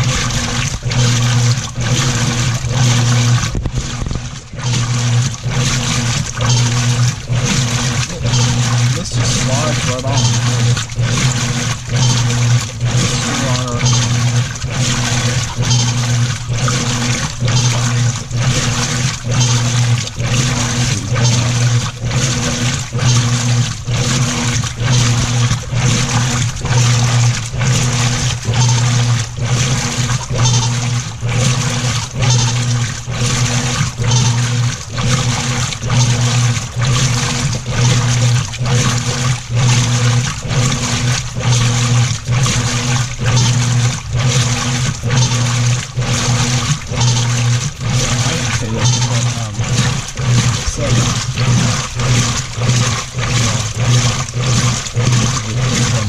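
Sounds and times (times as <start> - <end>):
pulsing washer motor hum: 0.0 - 56.0
water sloshing in washer: 0.0 - 56.0.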